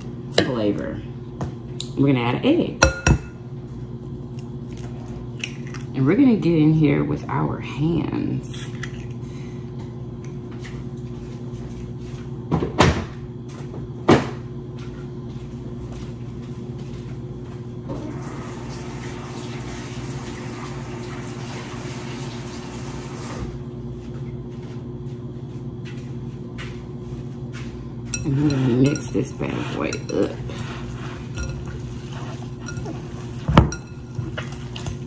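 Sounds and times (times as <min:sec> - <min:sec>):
steady low hum: 0:00.0 - 0:18.3, 0:23.4 - 0:35.0.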